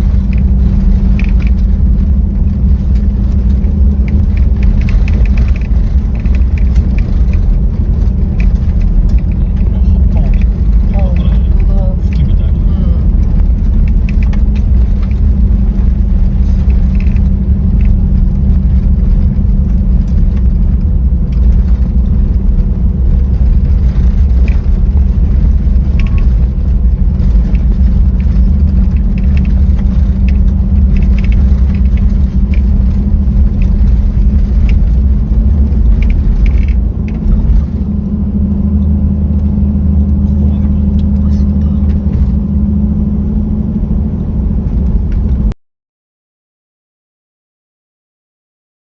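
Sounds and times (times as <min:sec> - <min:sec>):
engine and road rumble: 0:00.0 - 0:45.6.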